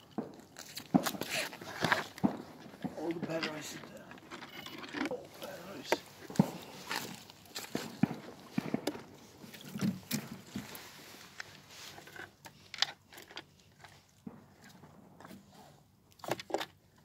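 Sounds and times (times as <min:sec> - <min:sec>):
handling clicks and rustles: 0:00.0 - 0:15.5.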